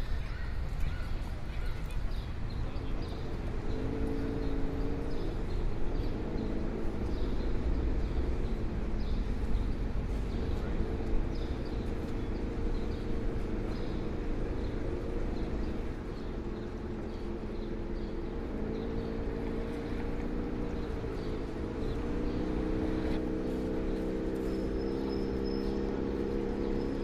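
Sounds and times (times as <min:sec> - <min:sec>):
ferry engine droning: 0:00.0 - 0:27.0.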